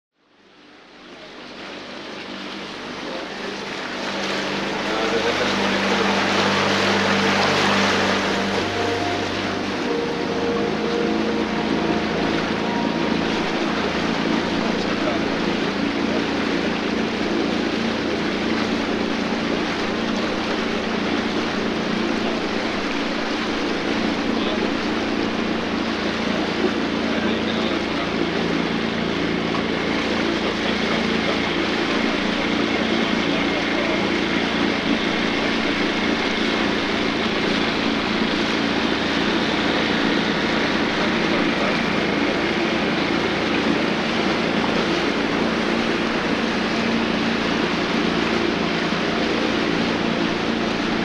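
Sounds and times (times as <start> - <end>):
boat motor humming: 0.2 - 51.0
water and wind noise: 0.3 - 51.0.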